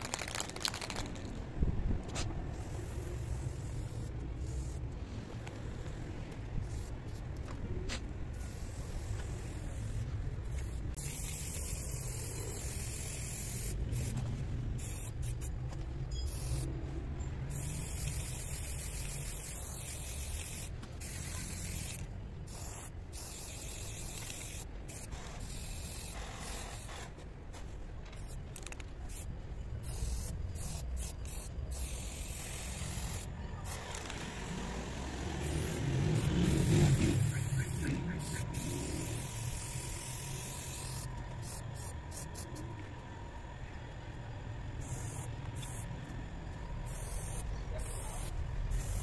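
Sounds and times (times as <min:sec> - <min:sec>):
spray paint can hissing: 0:00.0 - 0:01.3, 0:02.1 - 0:07.5, 0:08.3 - 0:15.6, 0:16.2 - 0:16.8, 0:17.4 - 0:27.2, 0:28.2 - 0:42.6, 0:44.8 - 0:45.9, 0:46.8 - 0:49.0.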